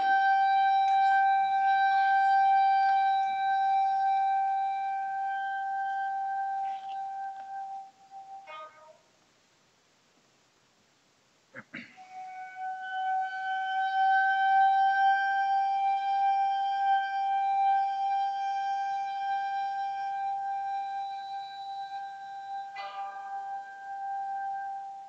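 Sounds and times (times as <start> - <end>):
bamboo flute long held note: 0.0 - 9.1, 12.0 - 25.0.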